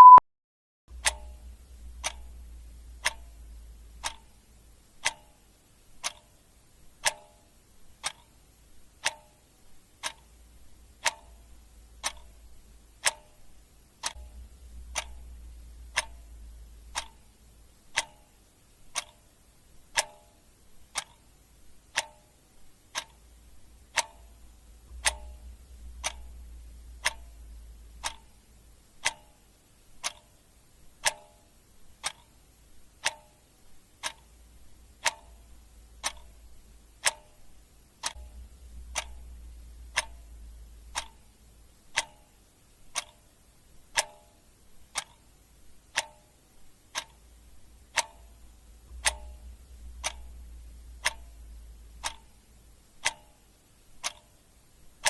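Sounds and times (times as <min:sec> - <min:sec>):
clock ticking: 0:00.9 - 0:55.0.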